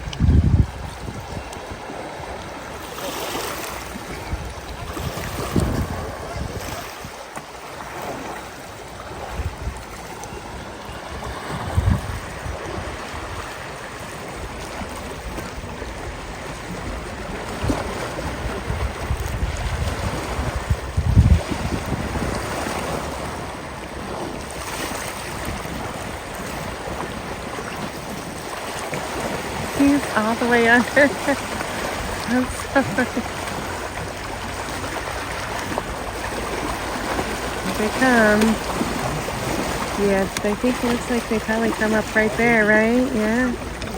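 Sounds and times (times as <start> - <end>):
river water rushing and splashing: 0.0 - 43.9
wind buffeting microphone: 0.0 - 43.9.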